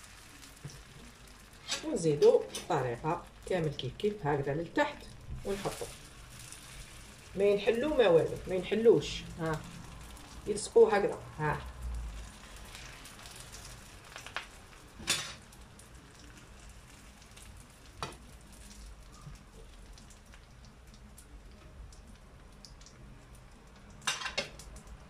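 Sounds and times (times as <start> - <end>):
pastry sizzling in a frying pan: 0.0 - 25.0.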